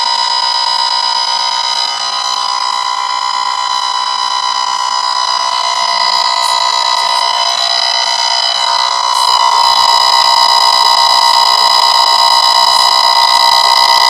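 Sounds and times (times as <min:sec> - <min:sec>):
radar detector alert tone: 0:00.0 - 0:14.0.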